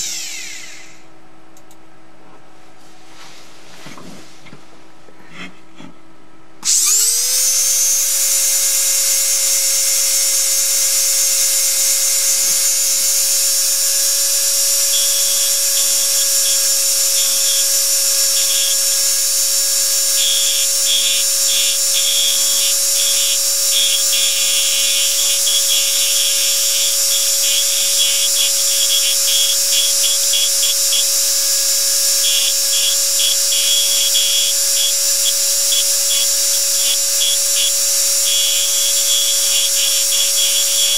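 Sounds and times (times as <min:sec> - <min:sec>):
engraving machine motor humming: 0:00.0 - 0:01.0, 0:06.6 - 0:40.9
handpiece buzzing: 0:06.6 - 0:40.9.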